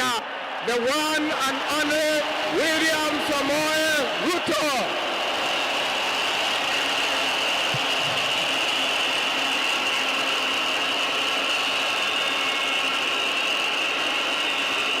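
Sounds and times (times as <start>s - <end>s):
large crowd cheering: 0.0s - 15.0s.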